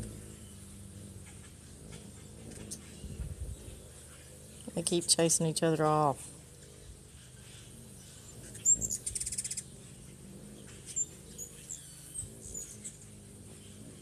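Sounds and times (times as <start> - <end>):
hummingbirds calling: 0.0 - 14.0.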